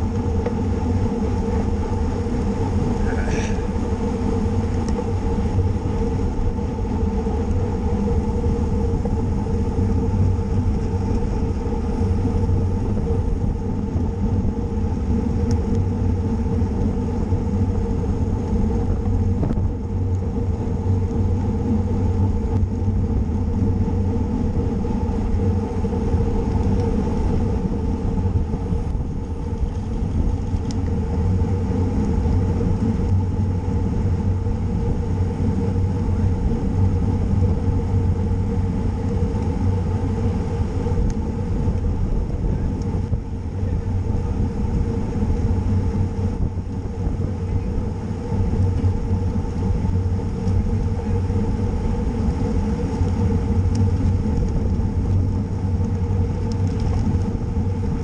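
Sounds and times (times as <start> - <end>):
road noise: 0.0 - 58.0
wind rumble: 0.0 - 58.0.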